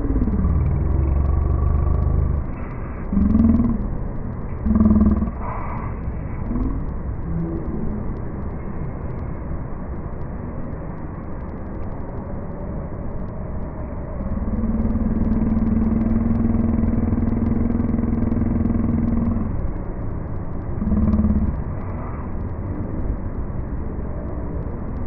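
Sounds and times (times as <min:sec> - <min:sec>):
electric hum of train car: 0:00.0 - 0:25.0.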